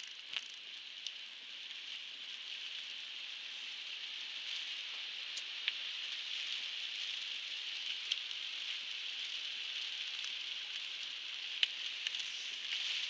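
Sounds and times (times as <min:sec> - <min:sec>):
sharp raindrop ticks: 0:00.0 - 0:03.0, 0:04.2 - 0:13.0.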